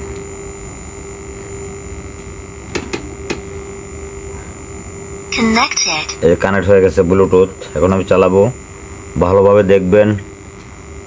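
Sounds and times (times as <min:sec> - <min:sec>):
amplifier hum with faint hiss: 0:00.0 - 0:11.0.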